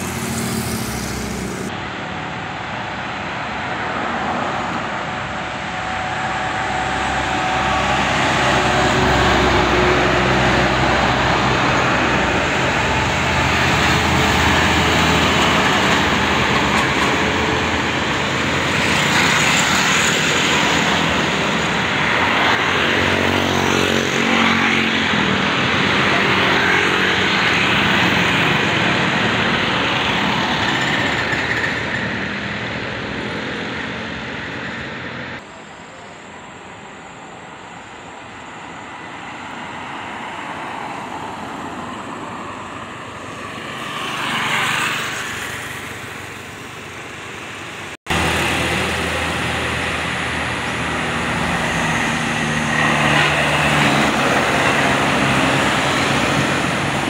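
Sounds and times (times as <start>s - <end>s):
truck engines pulling under load: 0.0s - 35.4s, 38.0s - 57.0s.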